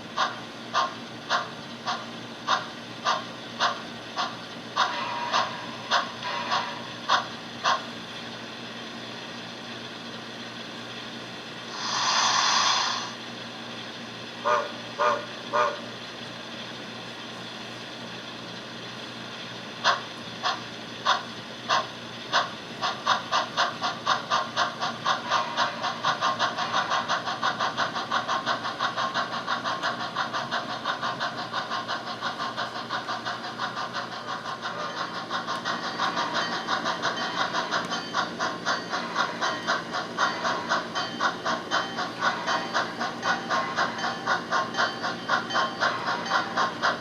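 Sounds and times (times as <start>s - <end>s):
model steam locomotive chuffing: 0.0s - 47.0s.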